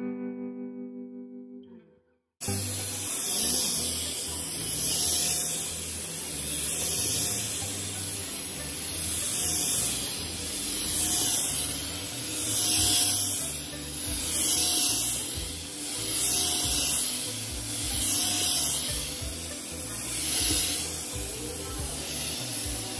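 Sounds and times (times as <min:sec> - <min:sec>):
vacuum cleaner on carpet: 0:02.4 - 0:22.9.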